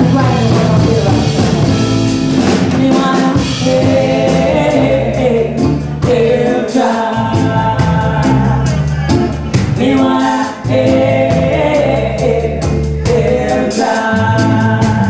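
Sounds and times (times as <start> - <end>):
drum kit and bass groove: 0.0 - 15.0
person singing: 2.6 - 15.0.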